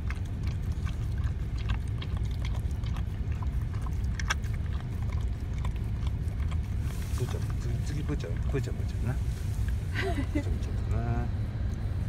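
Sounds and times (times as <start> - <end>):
dog lapping from bowl: 0.0 - 9.8
low rumble inside car: 0.0 - 12.0.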